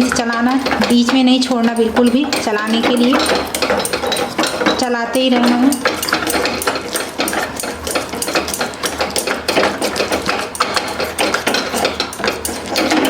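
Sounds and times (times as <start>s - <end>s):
spoon scraping a bowl: 0.0s - 13.0s.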